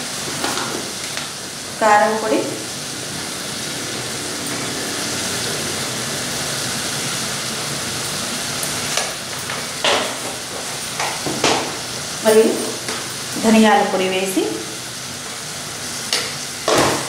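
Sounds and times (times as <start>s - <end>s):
masala sizzling in a pot: 0.0s - 17.0s.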